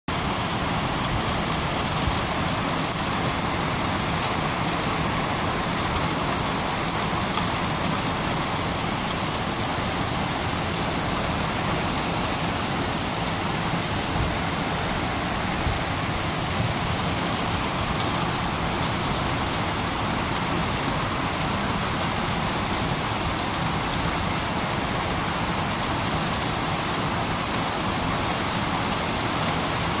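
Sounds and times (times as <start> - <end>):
rain pattering on surfaces: 0.1 - 30.0.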